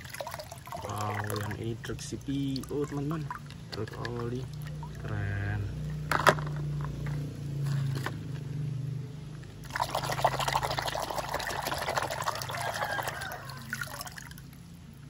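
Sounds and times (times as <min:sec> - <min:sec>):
water splashing and sloshing: 0:00.0 - 0:08.5, 0:09.3 - 0:15.0.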